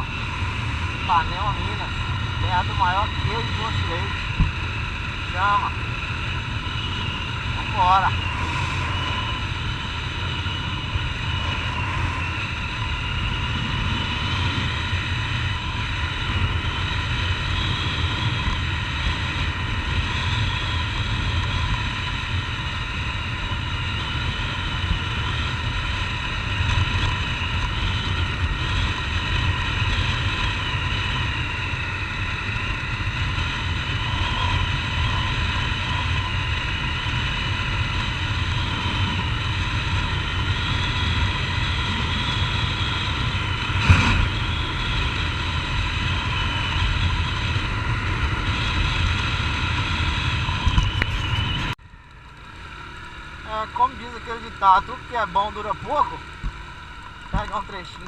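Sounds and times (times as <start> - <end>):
wind rush: 0.0 - 51.8
motorcycle engine running: 0.0 - 58.0.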